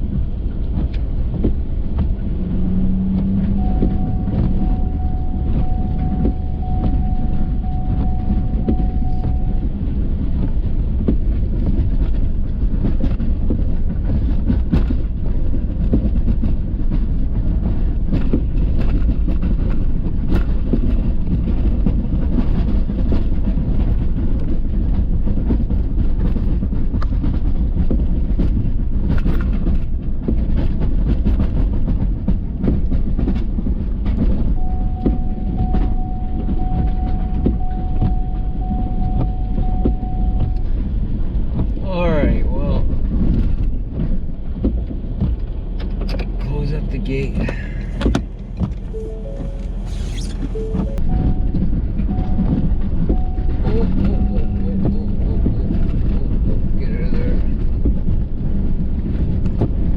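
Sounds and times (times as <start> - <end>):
pickup truck rumbling: 0.0 - 59.9.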